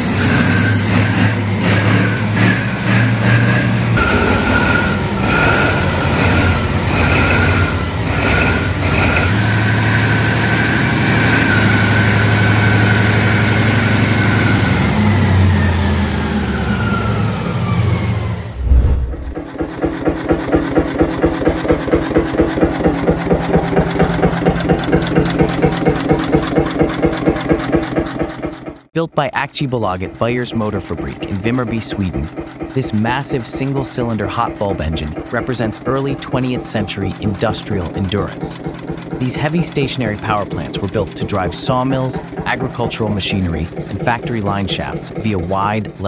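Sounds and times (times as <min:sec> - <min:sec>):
engine slow even beat: 0:00.0 - 0:17.8, 0:18.4 - 0:46.0
diesel engine running hard: 0:00.0 - 0:46.0.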